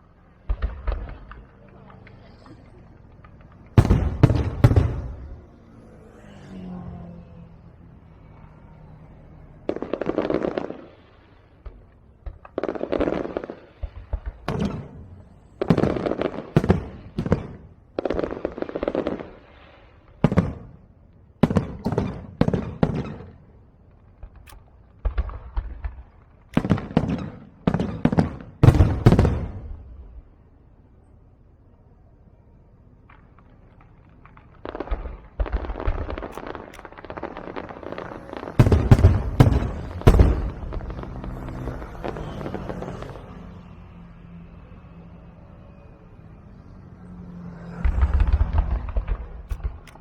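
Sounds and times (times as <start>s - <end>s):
fireworks booming and crackling: 0.0s - 31.0s, 32.8s - 50.0s.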